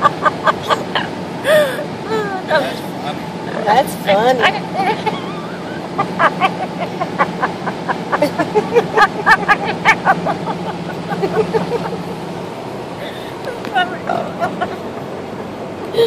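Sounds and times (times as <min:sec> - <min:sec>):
car hum on road: 0:00.0 - 0:16.0.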